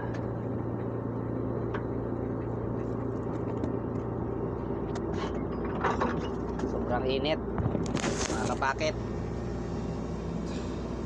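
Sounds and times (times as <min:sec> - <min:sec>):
bulldozer engine running: 0:00.0 - 0:11.0.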